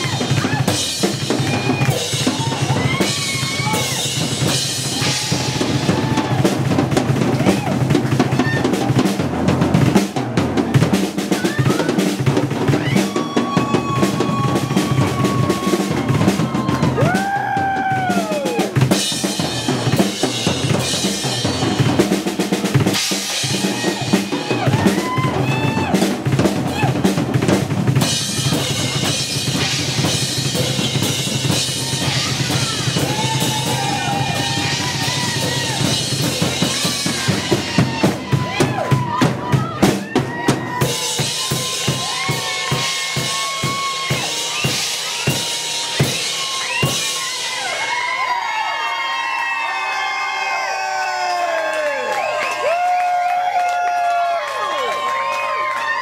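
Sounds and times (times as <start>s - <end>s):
rock drum solo: 0.0s - 48.8s.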